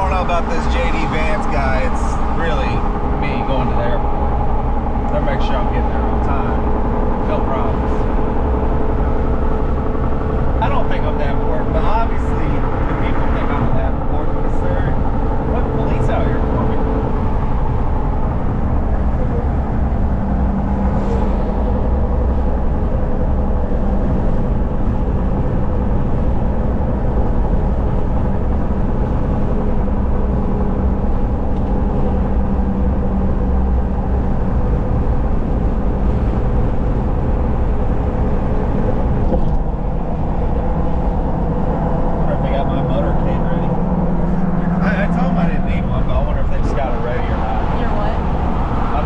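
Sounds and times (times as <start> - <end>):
car cabin road noise: 0.0 - 49.0.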